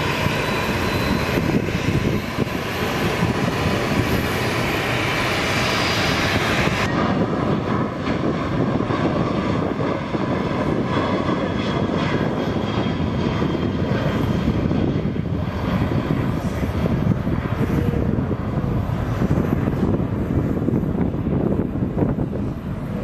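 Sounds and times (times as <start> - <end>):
jet engines at takeoff thrust: 0.0 - 23.0.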